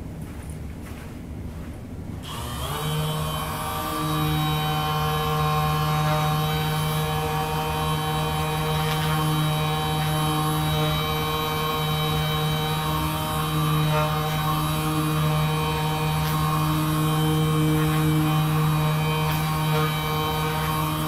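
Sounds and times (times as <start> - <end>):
massage gun motor droning: 2.2 - 21.0.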